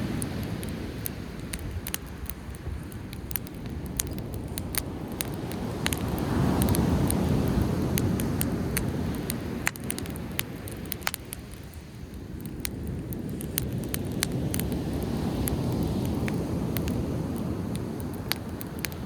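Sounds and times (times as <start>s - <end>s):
bonfire crackling and popping: 0.0s - 19.0s
sea waves washing: 0.0s - 19.0s.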